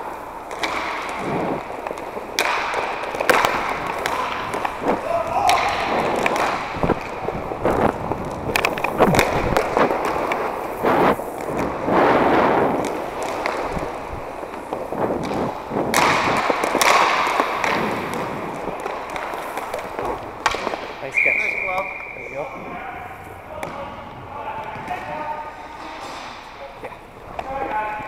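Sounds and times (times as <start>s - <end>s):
skate wheels rolling: 0.0s - 28.0s
sticks and puck clacking: 0.0s - 28.0s.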